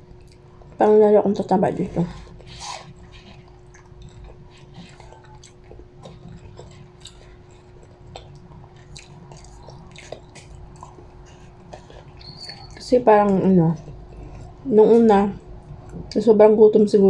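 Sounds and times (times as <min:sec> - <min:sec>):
person chewing food: 0:00.0 - 0:00.8, 0:01.8 - 0:16.2
steady low hum: 0:00.0 - 0:17.0.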